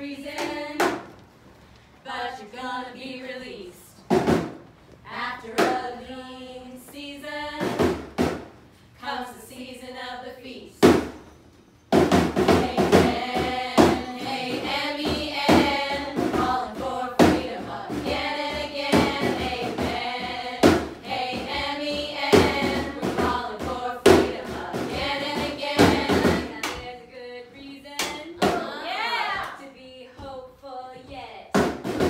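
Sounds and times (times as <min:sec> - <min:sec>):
voices singing together: 0:00.0 - 0:01.1, 0:02.0 - 0:04.0, 0:05.1 - 0:08.0, 0:09.0 - 0:10.8, 0:12.3 - 0:31.4.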